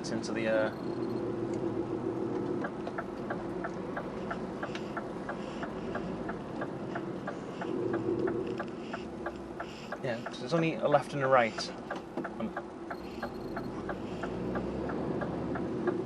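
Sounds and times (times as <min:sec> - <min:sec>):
lorry engine drone: 0:00.0 - 0:16.0
turn indicator ticking: 0:00.0 - 0:16.0.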